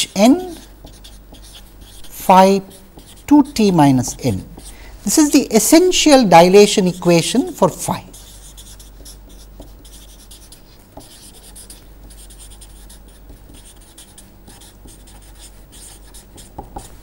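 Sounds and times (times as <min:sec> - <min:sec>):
marker pen scratching on paper: 0:00.0 - 0:04.8, 0:08.1 - 0:17.0
low steady hum: 0:00.0 - 0:17.0.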